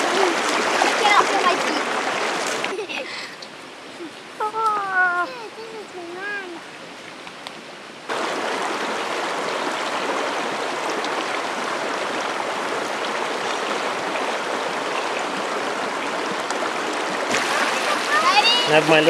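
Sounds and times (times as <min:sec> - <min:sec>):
creek running over stones: 0:00.0 - 0:19.0.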